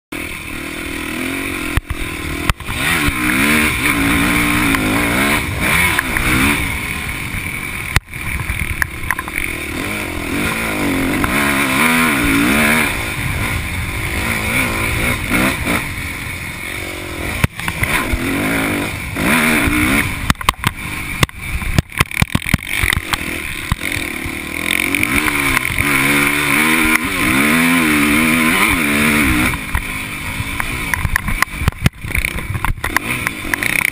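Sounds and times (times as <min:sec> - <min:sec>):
motocross bike engine revving: 0:00.1 - 0:33.9.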